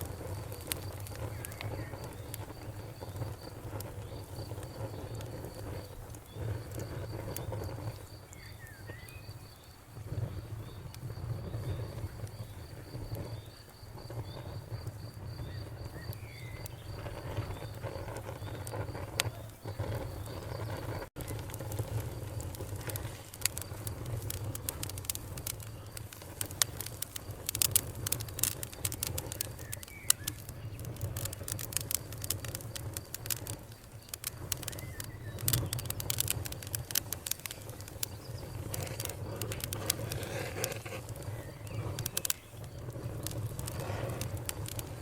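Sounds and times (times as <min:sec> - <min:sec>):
fire crackling: 0:00.0 - 0:45.0.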